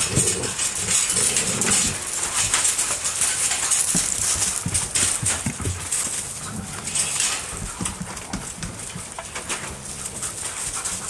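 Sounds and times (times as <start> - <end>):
dog paws scuffling on gravel: 0.0 - 11.0.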